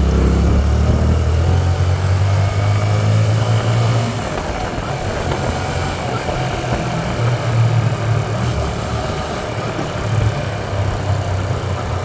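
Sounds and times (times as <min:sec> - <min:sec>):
motorcycle engine running at low revs: 0:00.0 - 0:12.0.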